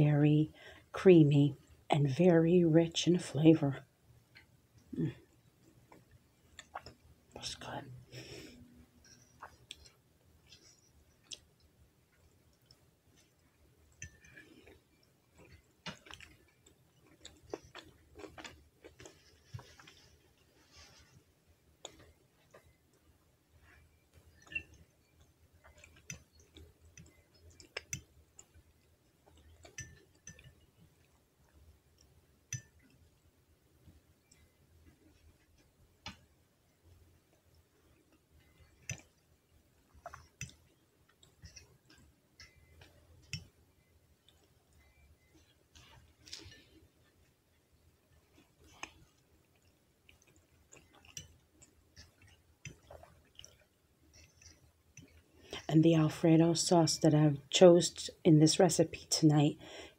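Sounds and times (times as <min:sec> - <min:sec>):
quiet chewing: 0:04.2 - 0:55.7.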